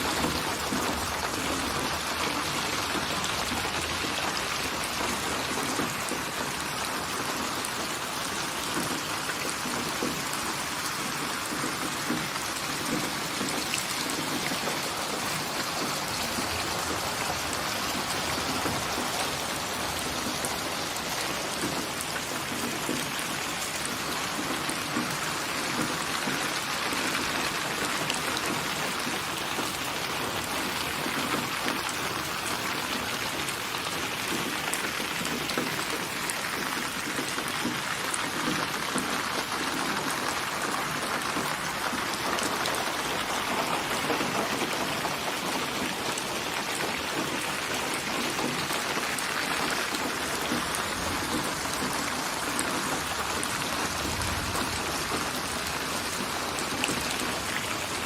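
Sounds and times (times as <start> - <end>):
rain pattering: 0.0 - 58.0.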